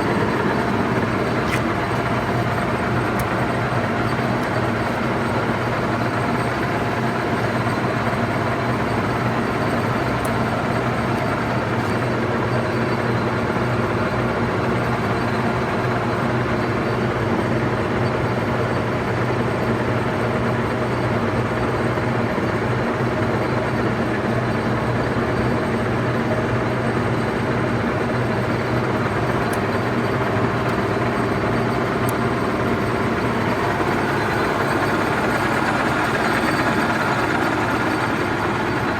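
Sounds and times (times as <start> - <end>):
lathe humming idle: 0.0 - 38.9.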